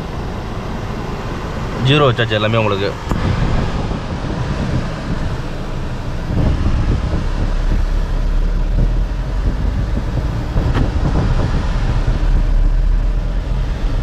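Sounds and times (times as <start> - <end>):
air conditioning blower rushing: 0.0 - 14.0
car engine humming: 0.0 - 14.0.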